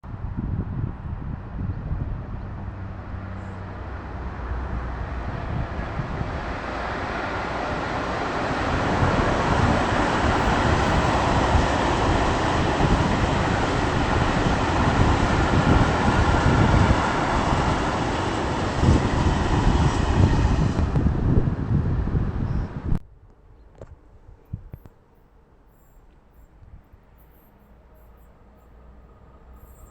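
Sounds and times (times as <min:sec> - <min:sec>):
train rumbling past: 0:00.1 - 0:23.0, 0:25.4 - 0:29.9.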